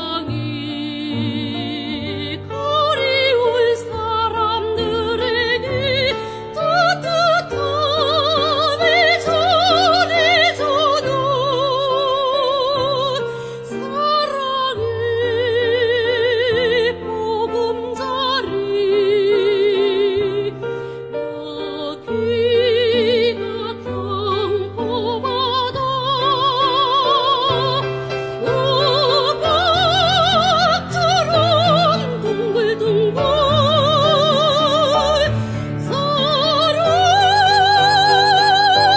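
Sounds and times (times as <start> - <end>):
soprano singing operatically: 0.0 - 38.9.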